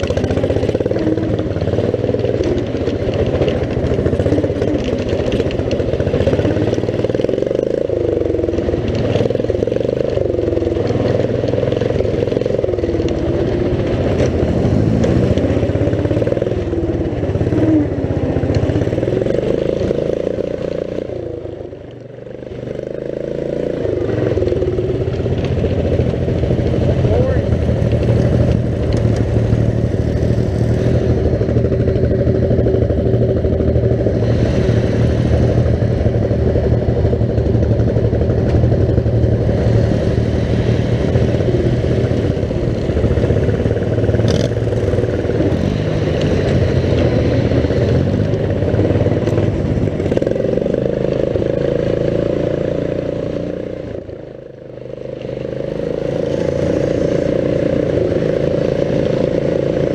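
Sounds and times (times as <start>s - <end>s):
riding mower engines running: 0.0s - 59.9s.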